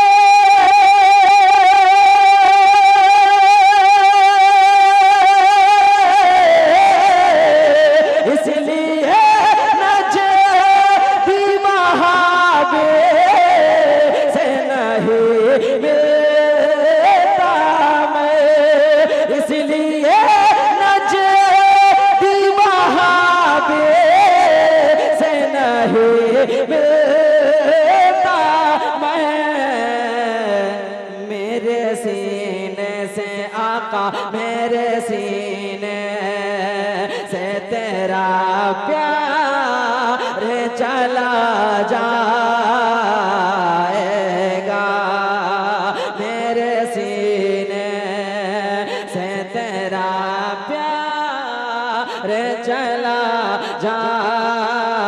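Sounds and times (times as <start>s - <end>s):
man chanting through a pa system: 0.0s - 55.0s.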